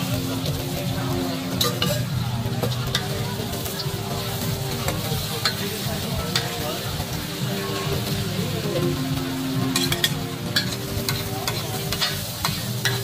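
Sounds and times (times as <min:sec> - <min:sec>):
food sizzling in a pan: 0:00.0 - 0:13.0
utensils clinking against a pan: 0:00.0 - 0:13.0.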